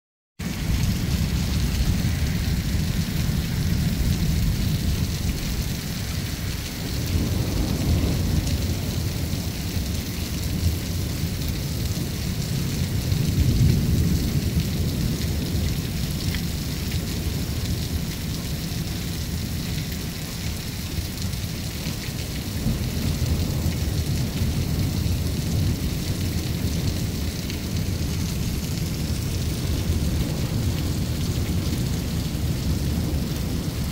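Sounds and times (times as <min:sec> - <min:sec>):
low rolling thunder: 0:00.4 - 0:20.2, 0:21.0 - 0:33.9
heavy rain pouring: 0:00.4 - 0:33.9.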